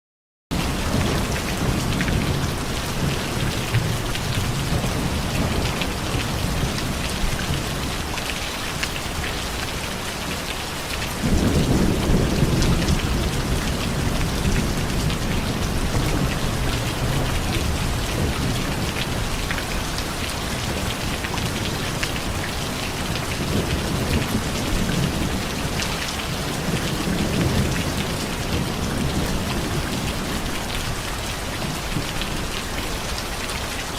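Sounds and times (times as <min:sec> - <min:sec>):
steady rain falling: 0:00.5 - 0:33.9
thunder rumbling: 0:00.6 - 0:08.1, 0:11.2 - 0:31.0.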